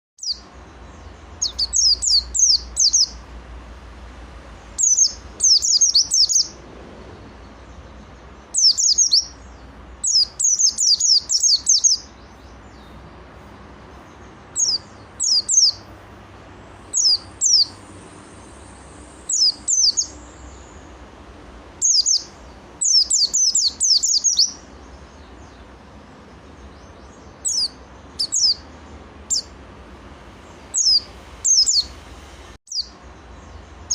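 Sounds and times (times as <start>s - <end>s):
bird chirping: 0.2s - 3.4s, 4.5s - 21.1s, 21.7s - 29.6s, 30.4s - 32.1s, 32.7s - 33.9s.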